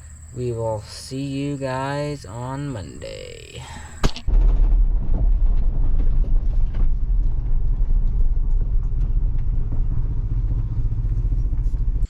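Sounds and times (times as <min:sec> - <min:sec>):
diesel engine low drone: 0:00.0 - 0:12.0.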